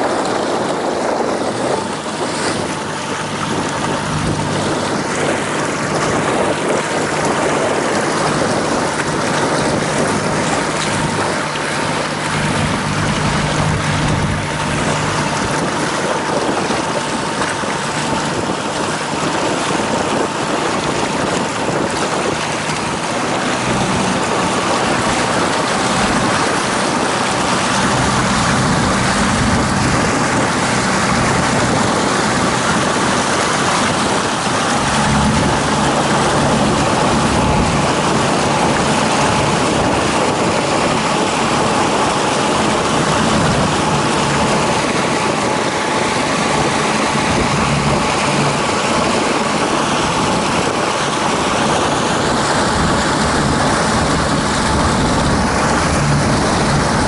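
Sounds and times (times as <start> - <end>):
motor boat engine running: 0.0 - 57.0
water rushing past hull: 0.0 - 57.0.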